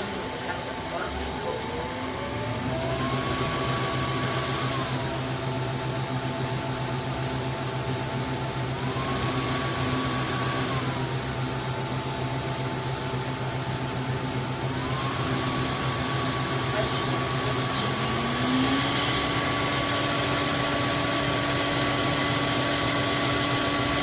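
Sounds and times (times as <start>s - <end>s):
floor cleaner motor humming: 0.0s - 24.0s.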